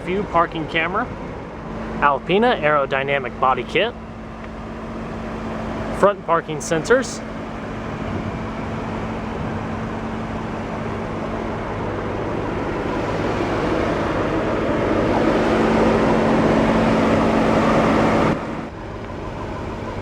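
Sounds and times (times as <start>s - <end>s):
constant low hum: 0.0s - 20.0s
vehicle noise: 0.0s - 20.0s.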